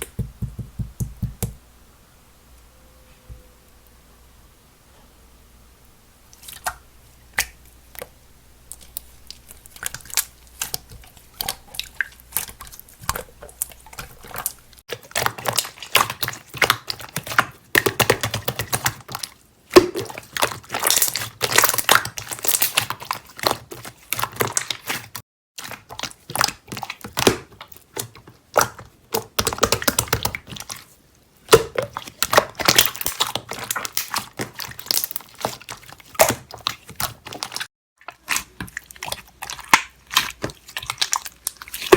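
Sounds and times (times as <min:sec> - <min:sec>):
slime clicking and squishing: 0:06.3 - 0:30.9, 0:31.5 - 0:41.9.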